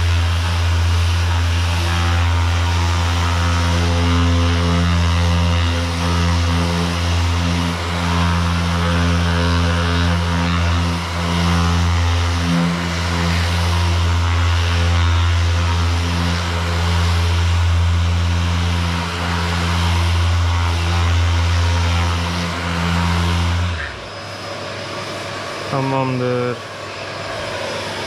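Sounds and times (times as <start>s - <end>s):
power sander running: 0.0s - 28.0s.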